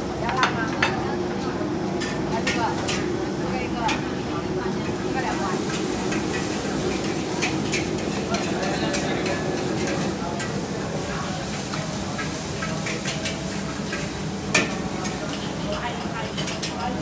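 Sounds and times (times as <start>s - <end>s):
food sizzling in a pan: 0.0s - 17.0s
people chattering: 0.0s - 17.0s.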